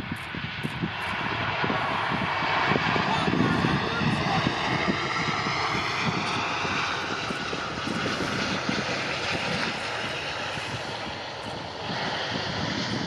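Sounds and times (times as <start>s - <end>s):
high jet whine: 0.0s - 13.0s
jet engines rushing: 0.0s - 13.0s.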